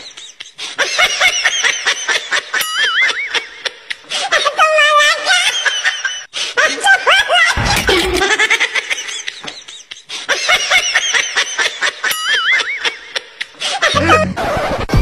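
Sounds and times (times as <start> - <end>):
squeaky cartoon laughter: 0.0 - 15.0.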